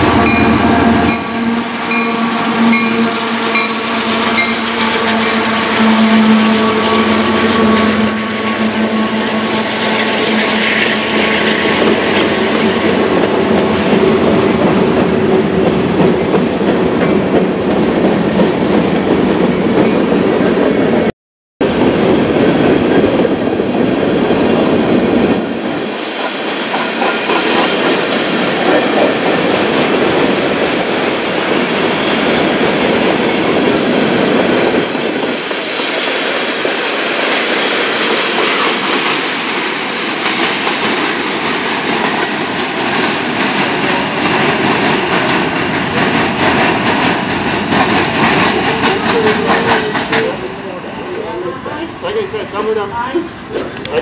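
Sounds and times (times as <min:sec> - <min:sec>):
freight train wheels clattering: 0:00.0 - 0:21.0, 0:21.8 - 0:50.8.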